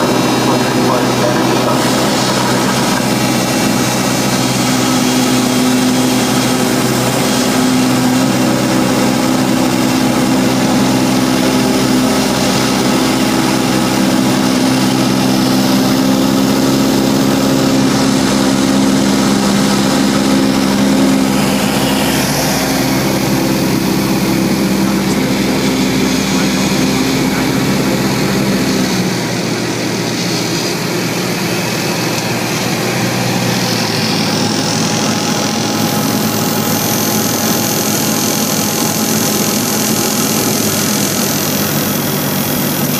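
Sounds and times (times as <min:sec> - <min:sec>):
small plane engine droning: 0:00.0 - 0:42.9.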